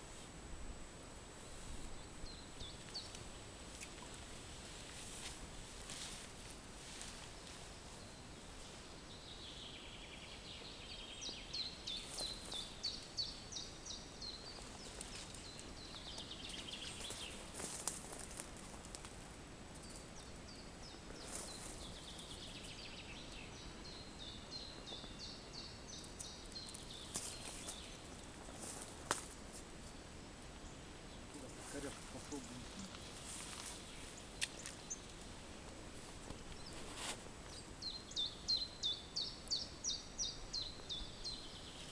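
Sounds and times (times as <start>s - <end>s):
faint outdoor background: 0.0s - 41.9s
songbird chirping: 6.9s - 19.0s, 19.7s - 41.9s.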